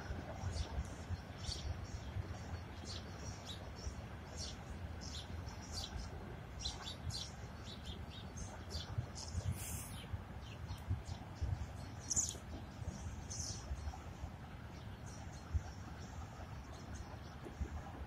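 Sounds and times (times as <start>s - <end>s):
steady low rumble: 0.0s - 18.0s
small birds chirping: 0.4s - 18.0s.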